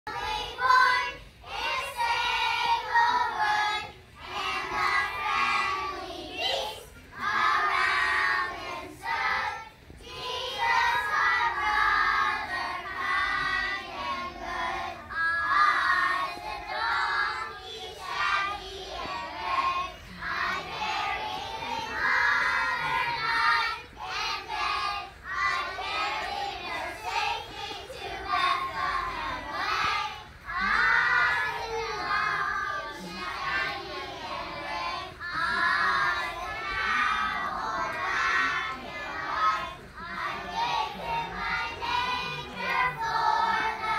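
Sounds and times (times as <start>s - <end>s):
children singing: 0.0s - 43.9s.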